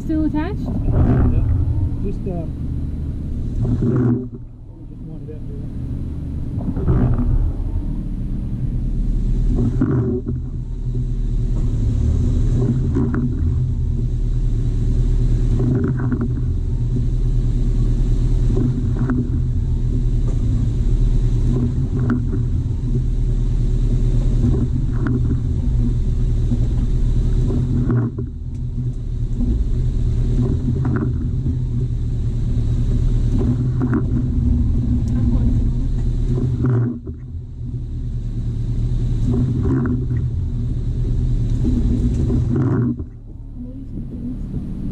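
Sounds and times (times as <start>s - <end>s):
engine running low rumble: 0.0s - 44.9s.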